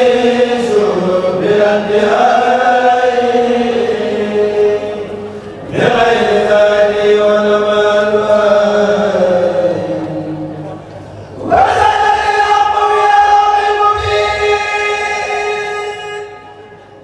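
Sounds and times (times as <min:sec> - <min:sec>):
group chanting: 0:00.0 - 0:05.0, 0:05.7 - 0:09.9, 0:11.4 - 0:16.6.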